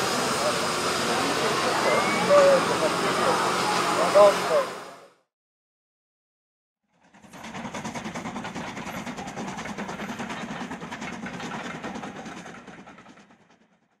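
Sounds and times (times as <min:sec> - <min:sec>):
steam locomotive exhaust beats: 0:00.0 - 0:05.0, 0:07.1 - 0:13.8
rail noise: 0:00.0 - 0:05.1, 0:07.1 - 0:13.6.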